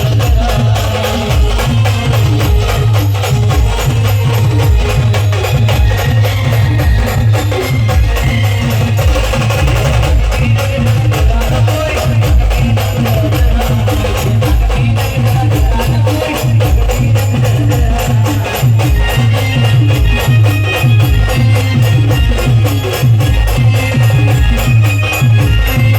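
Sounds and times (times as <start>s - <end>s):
folk band playing: 0.0s - 25.9s
heavy drum beat: 0.0s - 25.9s
rattling percussion: 0.0s - 25.9s.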